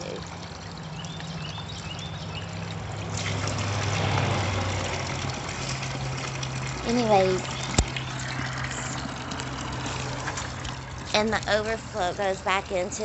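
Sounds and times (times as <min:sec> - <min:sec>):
water pouring into a pool: 0:00.0 - 0:12.4
low steady hum: 0:00.0 - 0:13.0.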